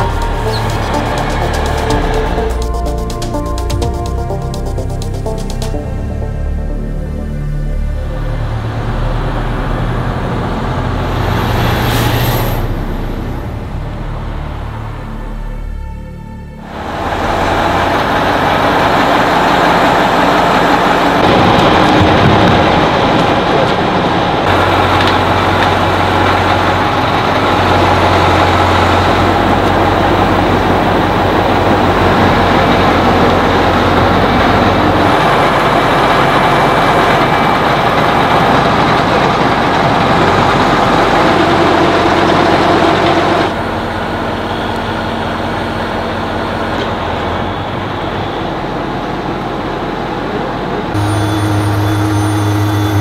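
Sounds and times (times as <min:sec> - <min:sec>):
heavy truck diesel engine running: 0:00.0 - 0:53.0.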